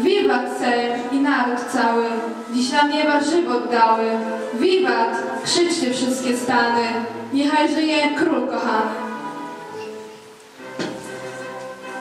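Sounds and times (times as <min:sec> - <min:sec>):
instrumental music: 0:00.0 - 0:12.0.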